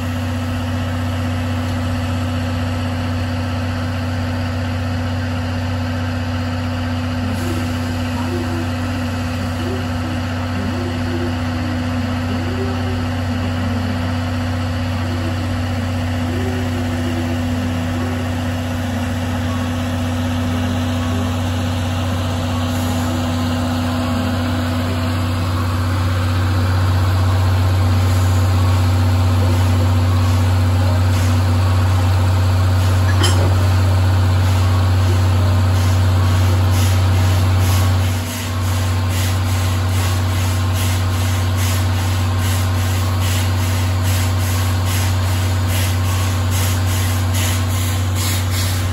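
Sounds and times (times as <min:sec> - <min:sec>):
low engine-like hum: 0:00.0 - 0:48.9.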